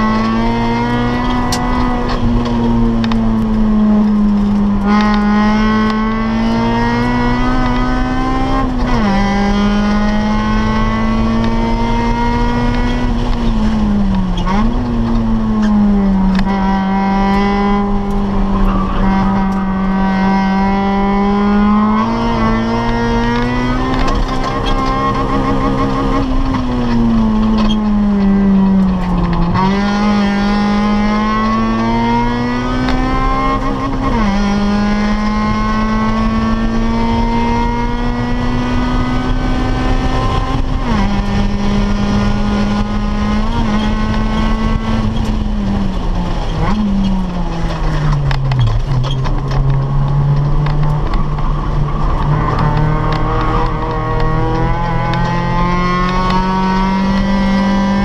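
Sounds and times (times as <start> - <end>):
car engine revving under acceleration: 0.0 - 58.0.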